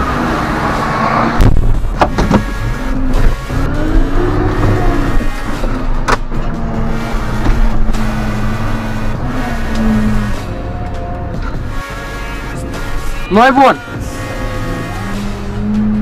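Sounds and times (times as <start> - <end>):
tractor engine revving: 0.0 - 16.0.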